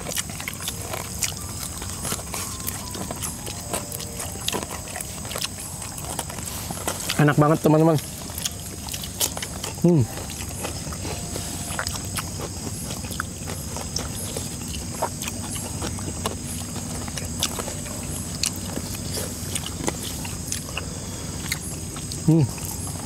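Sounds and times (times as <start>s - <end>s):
chewing and handling food: 0.0s - 23.0s
insect chorus: 0.0s - 23.0s.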